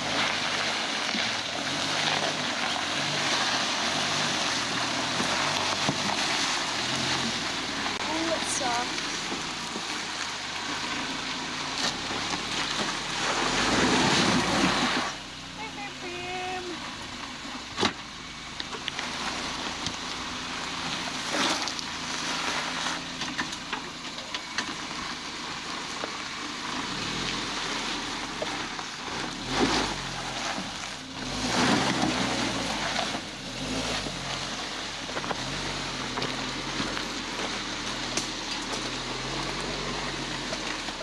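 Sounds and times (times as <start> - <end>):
car engine running at low revs: 0.0 - 41.0
tyres grinding over rock and gravel: 0.0 - 41.0.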